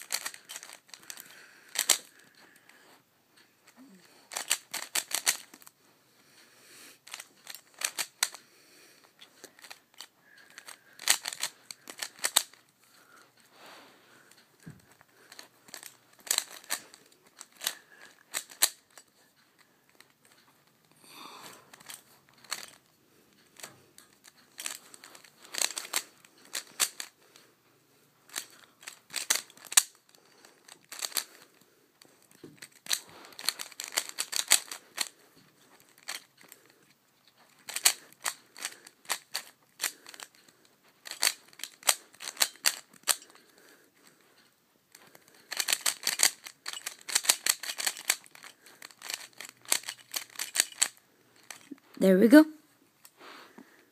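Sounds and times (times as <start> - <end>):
puzzle cube clicking as turned: 0.0 - 2.7, 3.6 - 5.7, 7.0 - 8.4, 9.1 - 12.7, 14.2 - 27.2, 28.2 - 44.3, 44.9 - 52.0.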